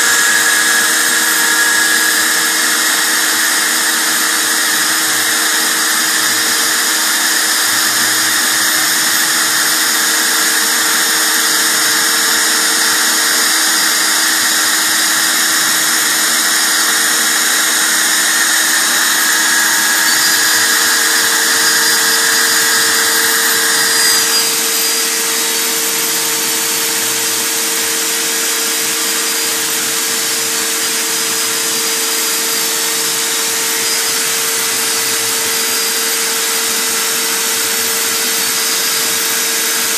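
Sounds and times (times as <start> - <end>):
milling machine spindle whine: 0.0 - 39.9.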